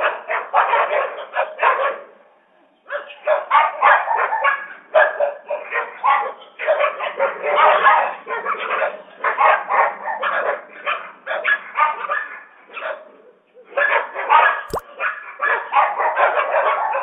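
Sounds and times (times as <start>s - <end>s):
dogs barking: 0.0s - 2.1s, 2.9s - 13.1s, 13.7s - 17.0s.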